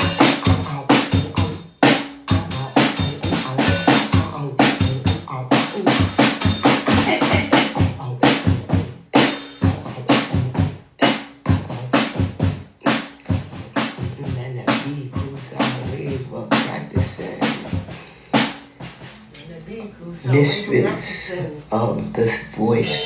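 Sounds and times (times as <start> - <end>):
person beatboxing: 0.0 - 18.6, 20.4 - 23.0.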